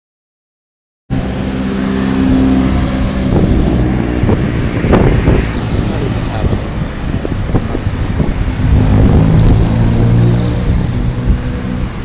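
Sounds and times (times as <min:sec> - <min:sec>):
car engine running: 0:01.1 - 0:12.0.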